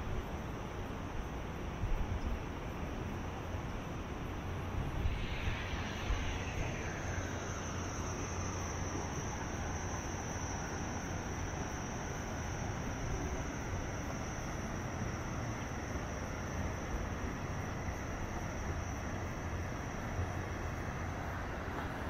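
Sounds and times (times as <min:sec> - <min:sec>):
insect trill: 0:00.0 - 0:22.0
rushing noise with low rumble: 0:03.9 - 0:22.0.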